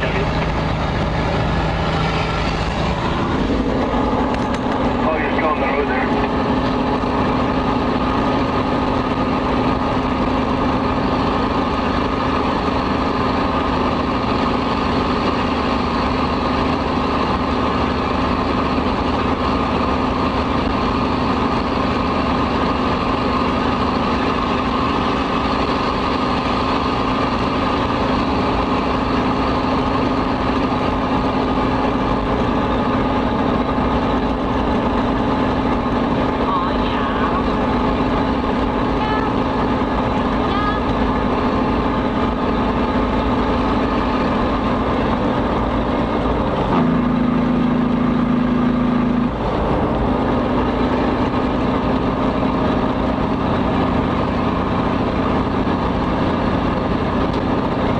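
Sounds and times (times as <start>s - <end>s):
truck diesel engine running: 0.0s - 57.9s.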